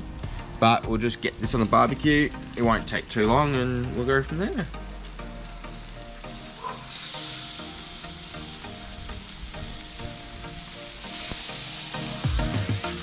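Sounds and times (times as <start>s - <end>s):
fish sizzling on barbecue plate: 0.0s - 13.0s.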